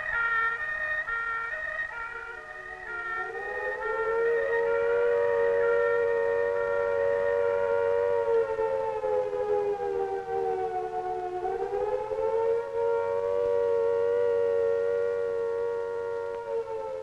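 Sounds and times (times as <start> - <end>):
siren chord: 0.0 - 17.0.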